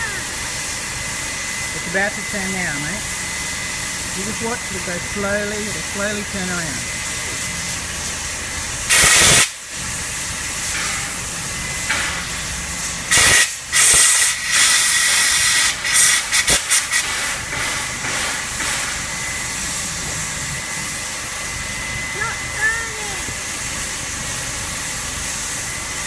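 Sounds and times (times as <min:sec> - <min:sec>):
loud blasts of escaping steam: 0:00.0 - 0:26.0
steam locomotive hissing: 0:00.0 - 0:26.0.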